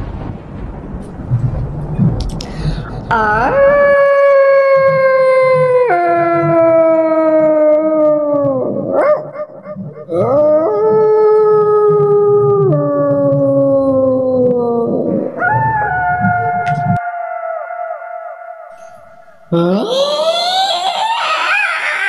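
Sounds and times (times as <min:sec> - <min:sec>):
dog howling: 0:03.1 - 0:22.0.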